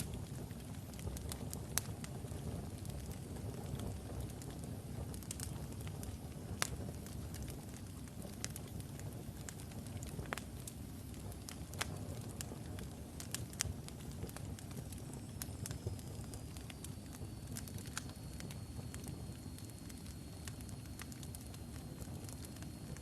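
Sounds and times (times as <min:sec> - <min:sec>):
fire crackles and pops: 0:00.0 - 0:23.0
low rumble of flame: 0:00.0 - 0:23.0.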